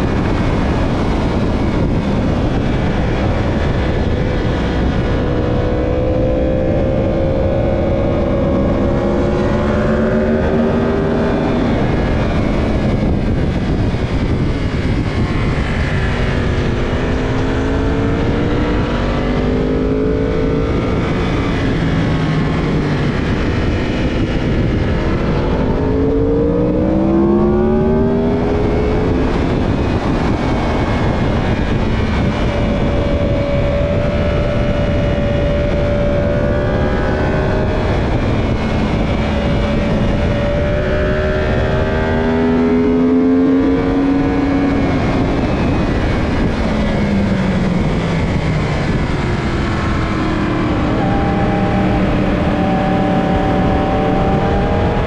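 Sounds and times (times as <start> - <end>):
racing motorcycle engine accelerating: 0.0 - 55.0
wind rushing on microphone: 0.0 - 55.0.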